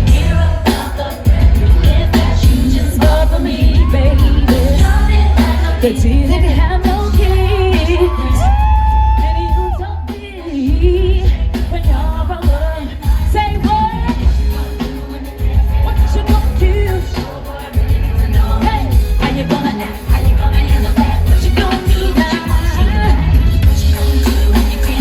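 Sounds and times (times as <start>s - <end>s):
live pop music with heavy bass: 0.0s - 25.0s
person singing: 0.0s - 25.0s.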